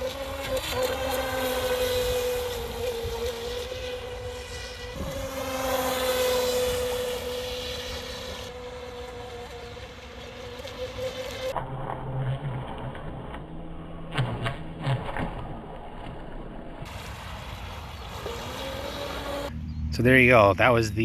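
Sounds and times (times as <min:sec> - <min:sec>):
electric boat motor whining: 0:00.0 - 0:19.9.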